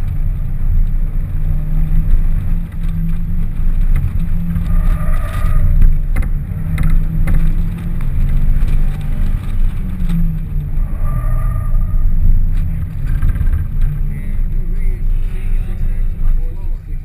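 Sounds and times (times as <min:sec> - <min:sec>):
car engine running under load: 0:00.0 - 0:17.0.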